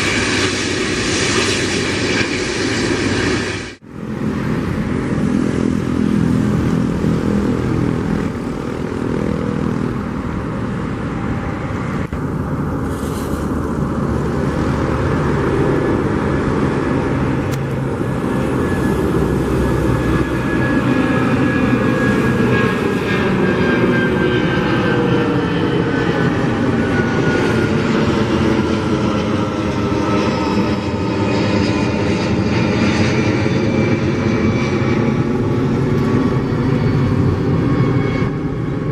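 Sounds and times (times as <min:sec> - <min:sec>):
jet engines rumbling and whining: 0:00.0 - 0:38.9.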